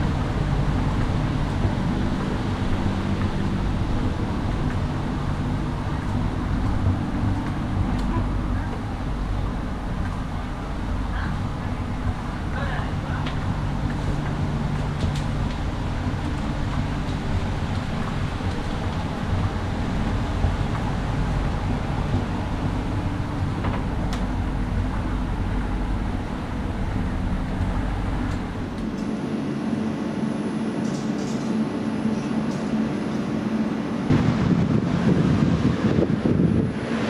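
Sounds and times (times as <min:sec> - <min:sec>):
tram running rumble: 0:00.0 - 0:37.0.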